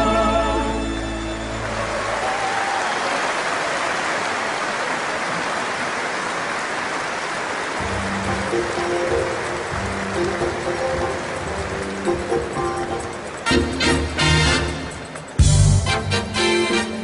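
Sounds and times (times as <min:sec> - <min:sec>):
arena crowd applauding: 0:00.9 - 0:15.4.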